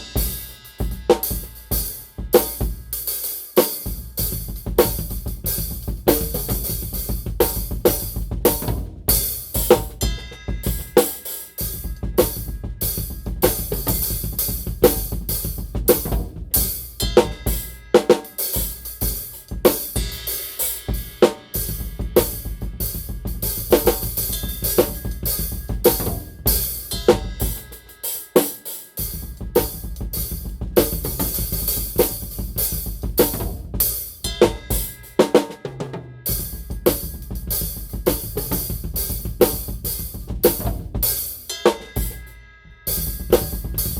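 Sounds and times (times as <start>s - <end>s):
drum kit groove: 0.0s - 43.9s.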